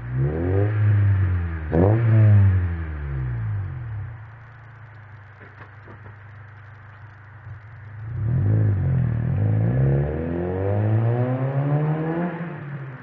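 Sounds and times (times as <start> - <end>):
car engine idling and accelerating: 0.0 - 13.0.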